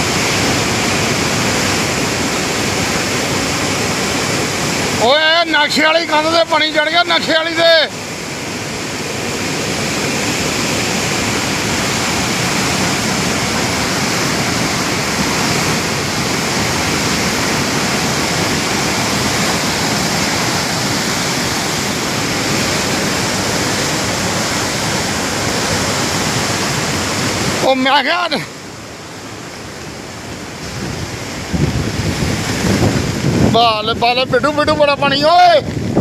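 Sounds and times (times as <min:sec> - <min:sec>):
river floodwater rushing: 0:00.0 - 0:36.0.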